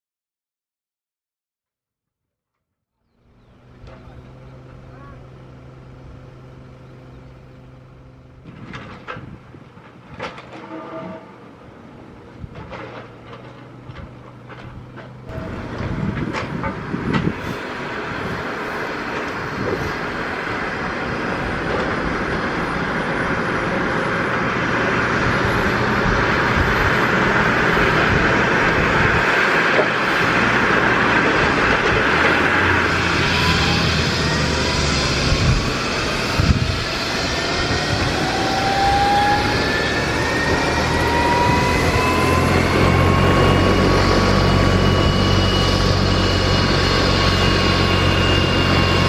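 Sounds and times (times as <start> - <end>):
helicopter turbine starting up: 3.1 - 9.8, 13.9 - 49.0
high turbine whine: 3.2 - 49.0.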